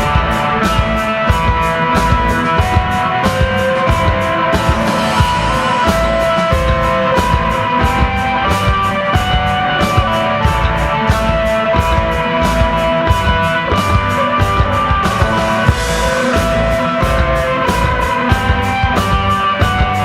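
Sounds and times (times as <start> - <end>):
bass line: 0.0 - 20.0
drums and cymbals: 0.0 - 20.0
electric guitar notes: 0.0 - 20.0.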